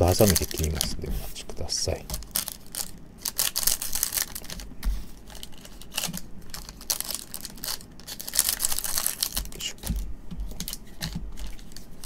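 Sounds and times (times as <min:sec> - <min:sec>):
foil wrappers crinkling: 0:00.0 - 0:12.0.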